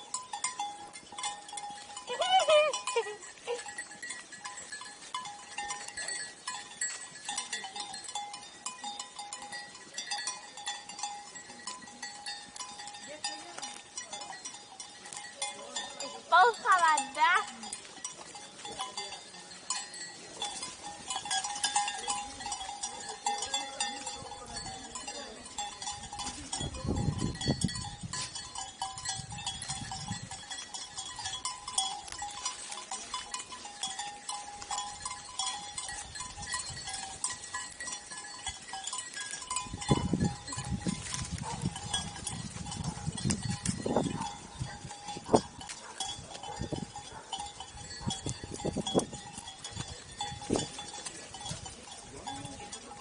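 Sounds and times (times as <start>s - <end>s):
sheep bells clinking: 0.0s - 53.0s.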